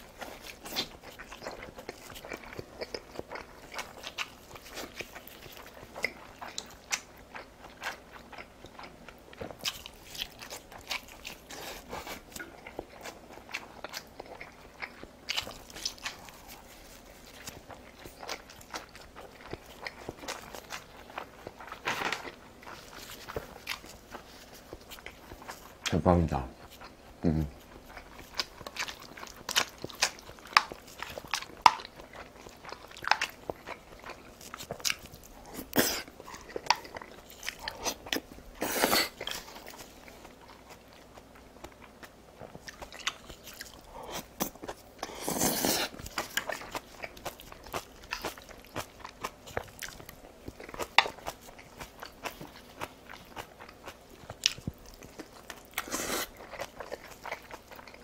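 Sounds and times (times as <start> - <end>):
close-miked chewing crunches: 0.0 - 58.0.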